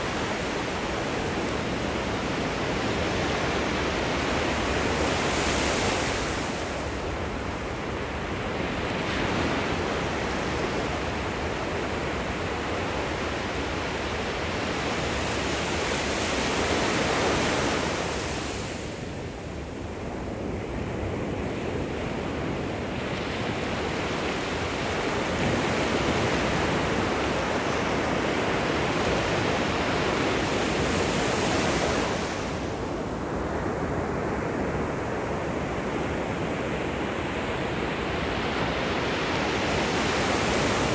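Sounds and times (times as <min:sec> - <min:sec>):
surf washing up the shore: 0:00.0 - 0:40.9.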